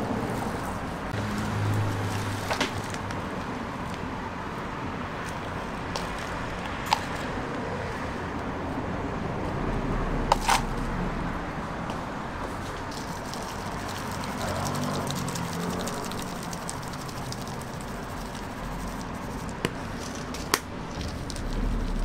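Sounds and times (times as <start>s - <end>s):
street food stall background noise: 0.0s - 22.0s.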